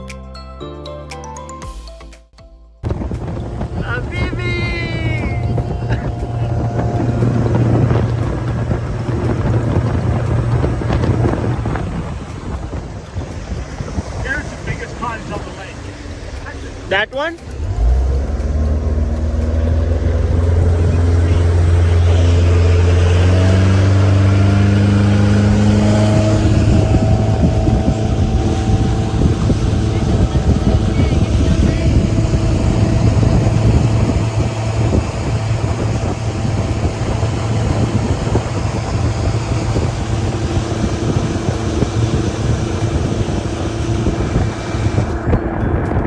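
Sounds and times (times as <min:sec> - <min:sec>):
motorboat engine droning: 0:02.8 - 0:46.0
water rushing past hull: 0:02.8 - 0:46.0
wind buffeting microphone: 0:02.8 - 0:46.0.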